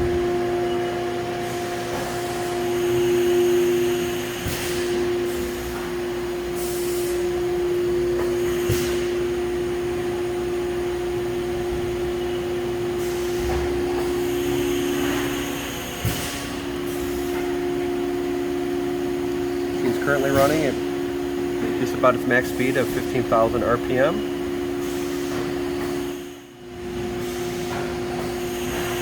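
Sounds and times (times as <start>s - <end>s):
machine spindle whine: 0.0s - 29.0s.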